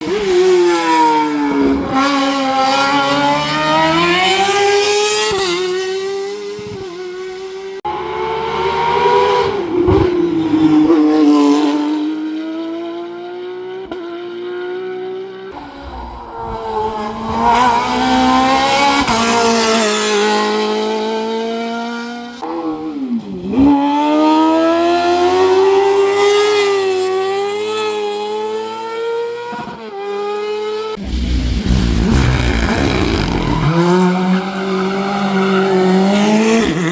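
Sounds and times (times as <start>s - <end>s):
racing car engine at full throttle: 0.0s - 36.9s.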